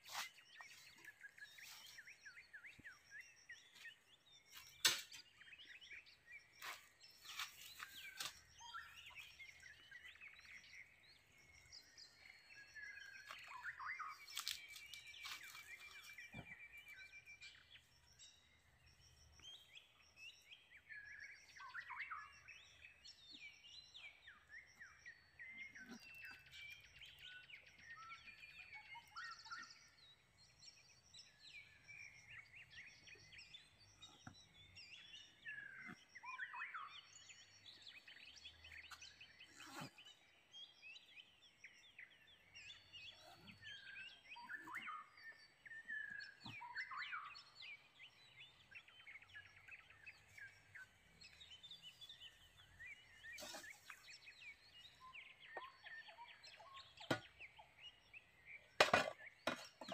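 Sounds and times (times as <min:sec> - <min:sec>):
birds chirping and calling: 0:00.0 - 0:30.0, 0:30.8 - 0:59.9.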